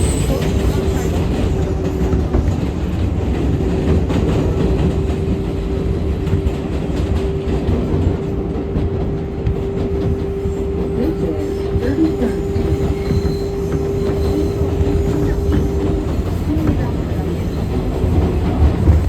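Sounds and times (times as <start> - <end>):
steady train whine: 0.0 - 19.0
subway train wheels rumbling: 0.0 - 19.0.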